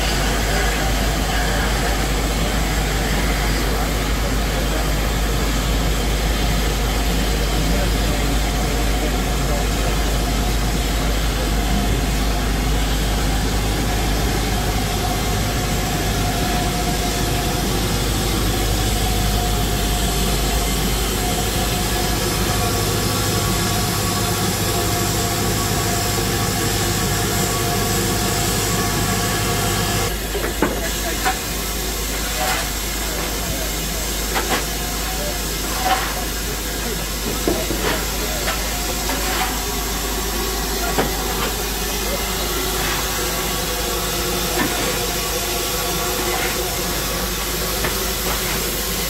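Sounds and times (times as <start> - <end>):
steam locomotive hissing: 0.0 - 49.0.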